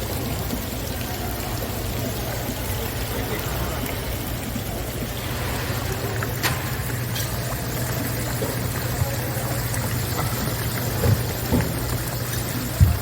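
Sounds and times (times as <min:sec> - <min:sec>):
low even pump hum: 0:00.0 - 0:13.0
water running and splashing: 0:00.0 - 0:13.0.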